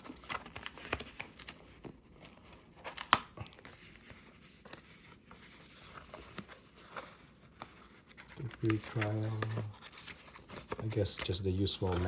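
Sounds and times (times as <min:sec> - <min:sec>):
paper and cardboard rustling: 0:00.0 - 0:12.0.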